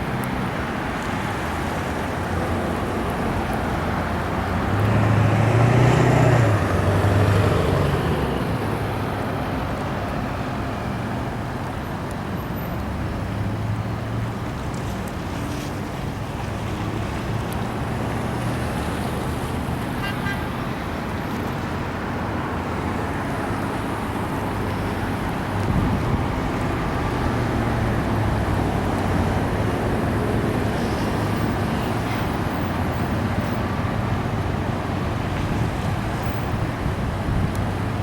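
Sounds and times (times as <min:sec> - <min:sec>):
trucks driving past: 0:00.0 - 0:38.0.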